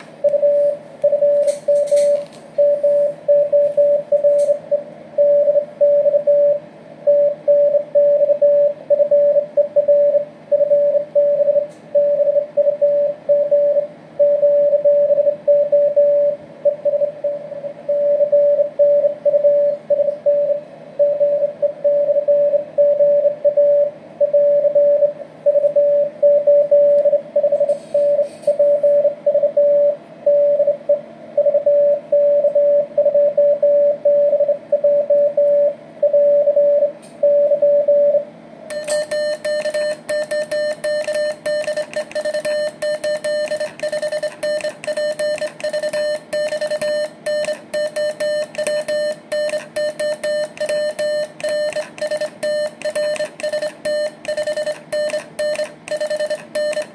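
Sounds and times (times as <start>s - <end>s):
morse code tone beeping: 0.2s - 56.9s.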